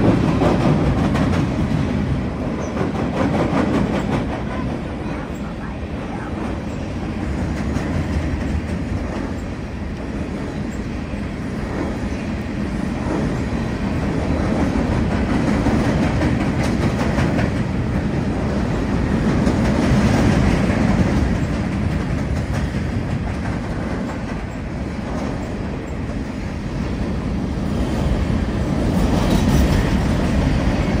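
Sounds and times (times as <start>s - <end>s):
train wheels clattering on bridge: 0.0s - 5.6s, 6.3s - 31.0s.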